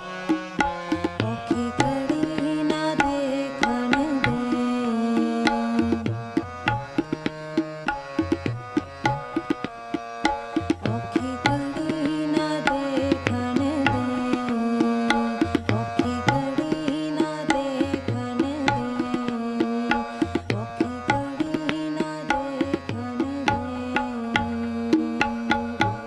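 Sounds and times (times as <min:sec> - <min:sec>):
harmonium melody: 0:00.0 - 0:26.0
tabla strokes: 0:00.0 - 0:26.0.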